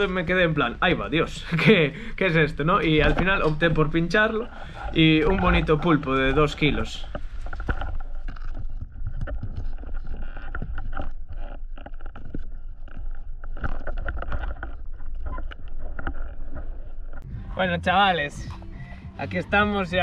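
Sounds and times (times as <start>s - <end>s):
bubbling: 0.0s - 17.4s
underwater rumble of moving water: 0.0s - 18.0s.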